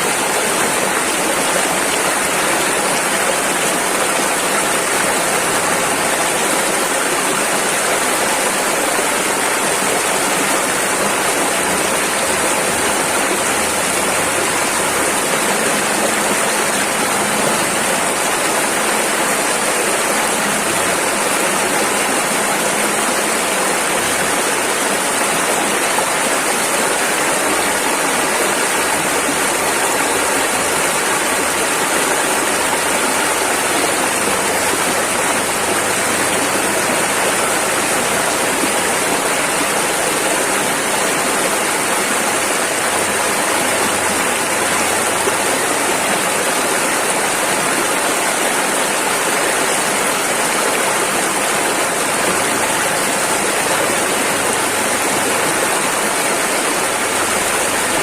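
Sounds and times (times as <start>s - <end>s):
river rapids rushing: 0.0s - 58.0s.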